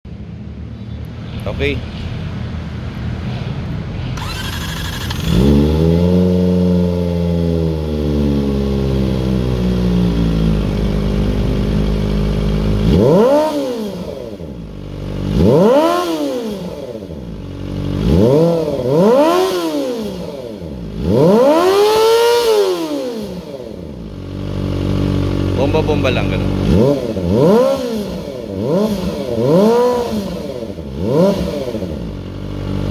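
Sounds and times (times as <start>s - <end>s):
motorcycle engine revving: 4.2s - 32.9s.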